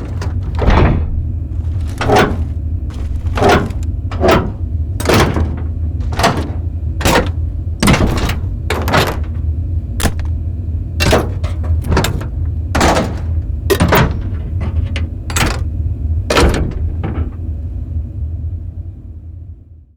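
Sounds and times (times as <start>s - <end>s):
metal levers clanking: 0.0s - 10.4s, 11.0s - 15.7s, 16.3s - 17.5s
factory rumble: 0.0s - 19.9s.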